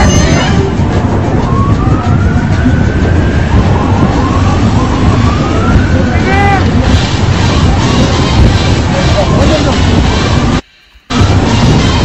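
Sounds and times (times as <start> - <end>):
siren wailing: 0.0 - 12.0
steady rumbling noise: 0.0 - 12.0.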